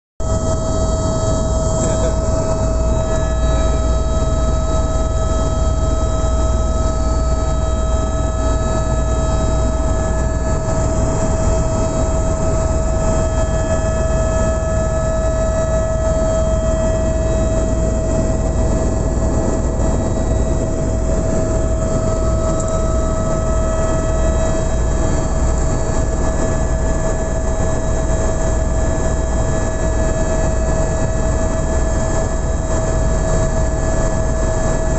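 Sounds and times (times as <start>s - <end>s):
constant whine: 0.2s - 34.9s
helicopter engine and rotor drone: 0.2s - 34.9s.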